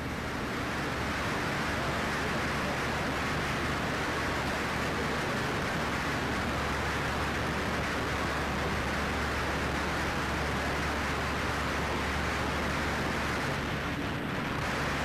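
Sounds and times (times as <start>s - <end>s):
aircraft engine and airflow hiss: 0.0s - 15.0s.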